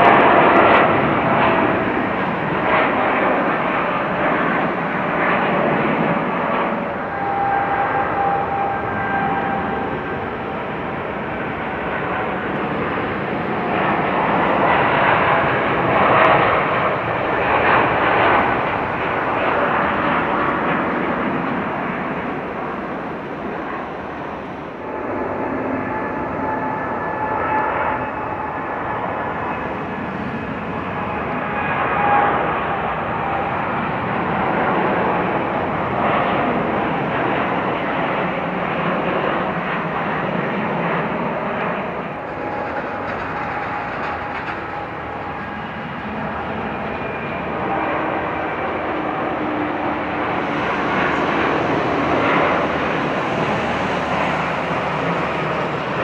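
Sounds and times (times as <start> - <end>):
jet airliner taking off: 0.0 - 56.0.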